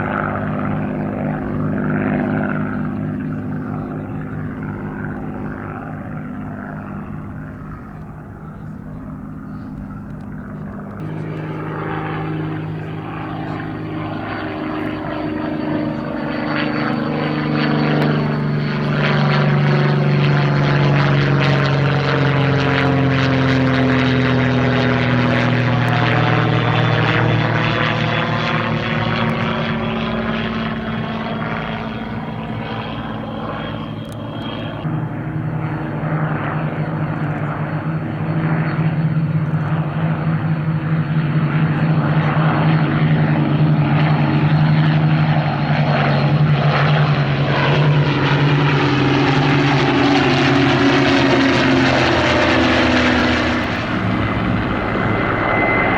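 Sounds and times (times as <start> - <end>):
propeller aircraft engines droning: 0.0 - 55.9.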